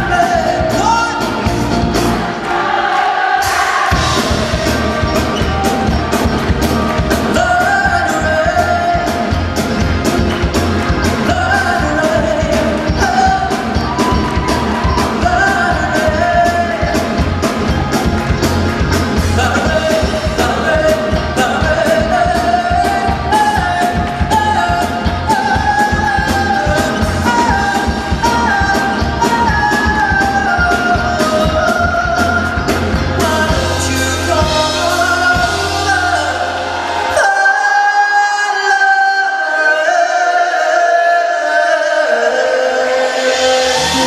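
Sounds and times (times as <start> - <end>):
bass: 0.0 - 2.7, 3.4 - 44.0
person singing: 0.0 - 2.8, 3.4 - 44.0
drum beat: 0.0 - 36.1.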